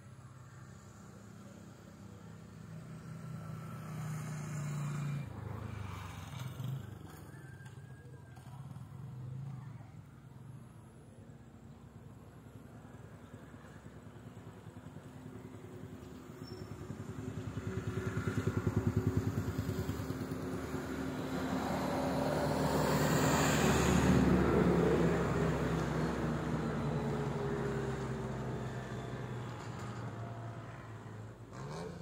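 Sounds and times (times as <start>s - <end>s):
vehicle engine passing by: 0.0s - 10.5s, 15.2s - 32.0s.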